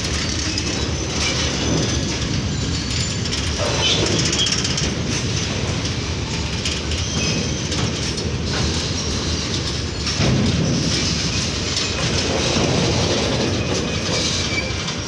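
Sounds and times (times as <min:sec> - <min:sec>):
freight train rumble: 0:00.0 - 0:15.0
steel wheels clattering over rail joints: 0:00.0 - 0:15.0.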